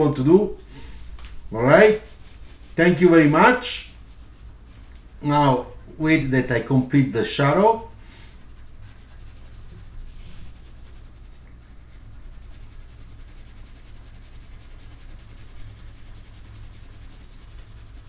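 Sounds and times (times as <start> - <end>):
low steady hum: 0.0 - 18.0
pencil scratching on paper: 1.6 - 5.6, 7.1 - 18.0.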